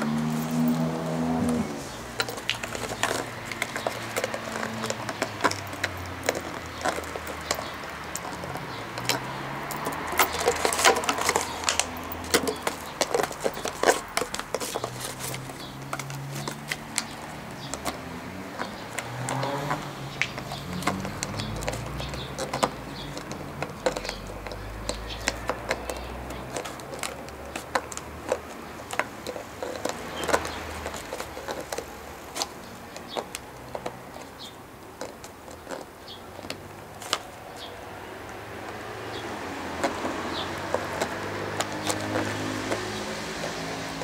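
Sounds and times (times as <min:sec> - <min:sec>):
dog gnawing plastic bottle: 0:00.0 - 0:44.0.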